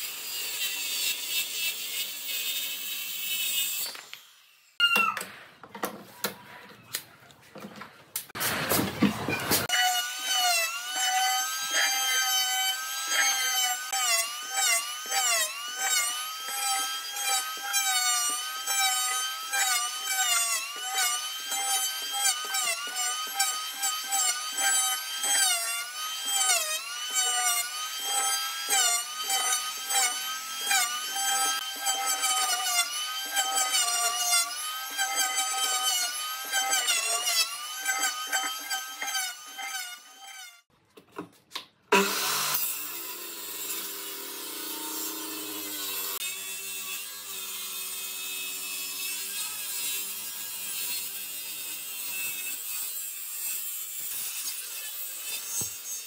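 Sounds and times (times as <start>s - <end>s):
electric planer shaving wood: 8.4s - 40.7s, 41.9s - 56.0s.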